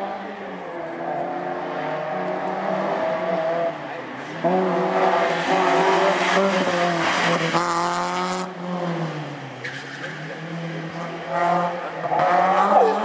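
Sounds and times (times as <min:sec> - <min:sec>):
race car engine working hard: 0:00.0 - 0:13.0.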